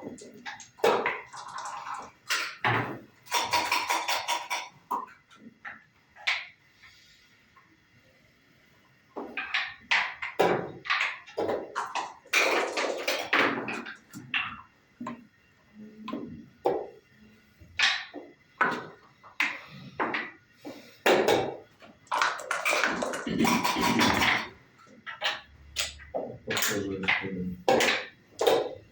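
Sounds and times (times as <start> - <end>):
wooden checkers clacking on board: 0.0 - 6.6, 9.2 - 15.3, 17.7 - 28.9.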